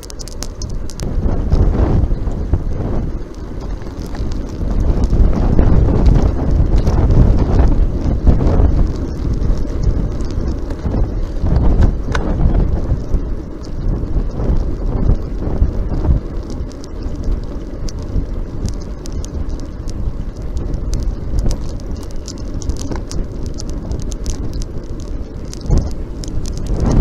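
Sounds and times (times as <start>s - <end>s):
small ticks and rattles: 0.0s - 27.0s
wind buffeting microphone: 0.0s - 27.0s.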